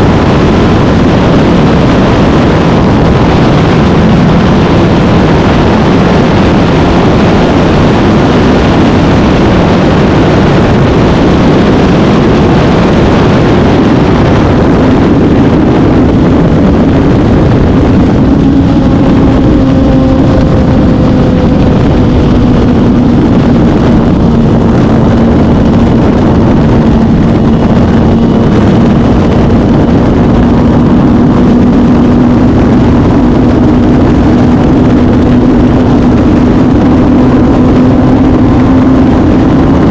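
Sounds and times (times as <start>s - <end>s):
loud rushing noise: 0.0s - 39.9s
motorcycle engine cruising: 0.0s - 39.9s.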